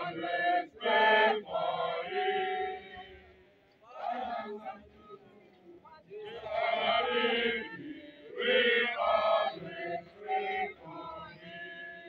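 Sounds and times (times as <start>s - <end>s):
voices chanting together: 0.0s - 12.0s.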